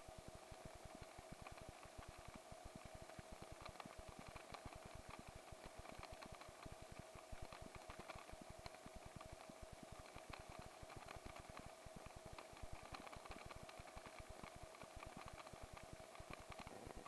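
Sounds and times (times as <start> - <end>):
faint helicopter rotor: 0.0 - 17.0
steady whine: 0.0 - 17.0.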